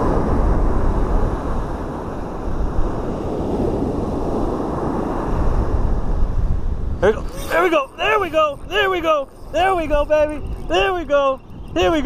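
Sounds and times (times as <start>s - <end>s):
waves breaking on beach: 0.0s - 12.0s
wind on microphone: 0.0s - 12.0s.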